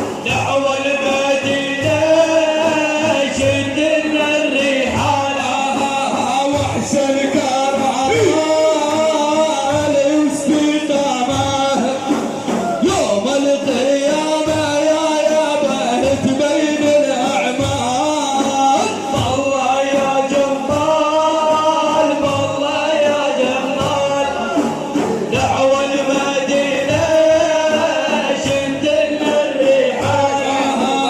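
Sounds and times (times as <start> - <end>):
low drum beats: 0.0 - 31.0
man singing a chant: 0.0 - 31.0.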